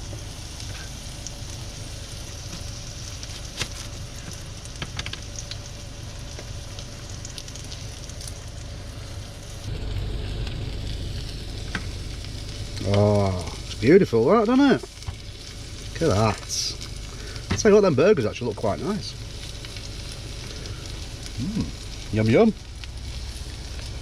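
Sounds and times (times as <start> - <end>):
burgers sizzling in a pan: 0.0 - 24.0.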